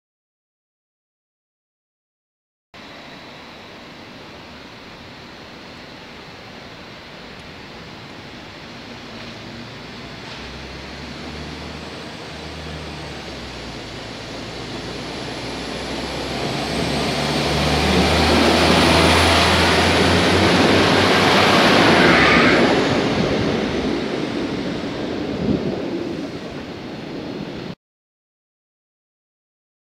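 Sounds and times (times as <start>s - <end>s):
diesel train engine under load: 2.8s - 27.6s.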